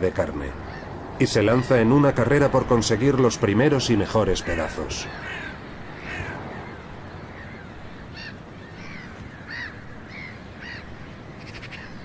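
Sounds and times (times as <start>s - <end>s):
background hiss: 0.0s - 12.0s
harsh bird calls: 0.0s - 12.0s.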